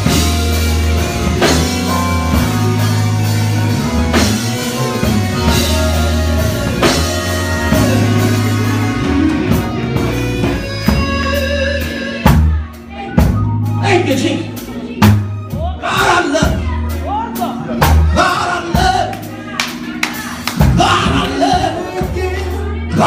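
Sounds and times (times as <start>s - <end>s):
instrumental gospel band: 0.0s - 23.0s.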